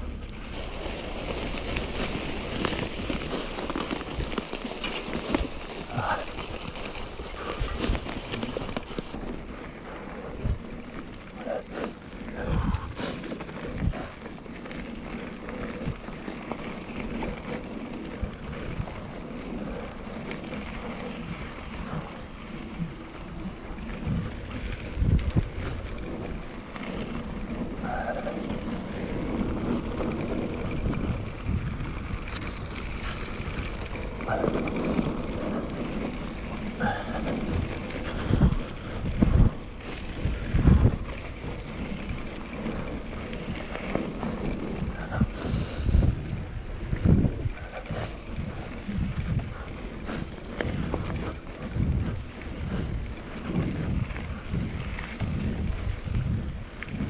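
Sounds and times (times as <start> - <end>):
wind on microphone: 0.0 - 14.3, 15.0 - 57.0
bike tyres rolling on gravel: 0.0 - 57.0.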